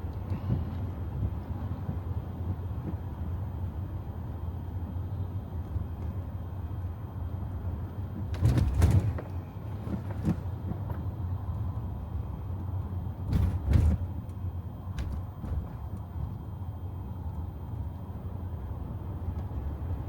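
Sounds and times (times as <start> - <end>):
road and tyre rumble in car: 0.0 - 20.0.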